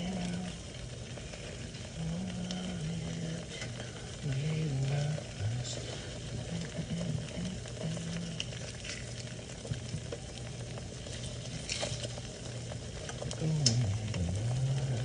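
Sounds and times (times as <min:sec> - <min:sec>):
eggs sizzling in a frying pan: 0:00.0 - 0:15.0
low wavering hum: 0:00.0 - 0:15.0.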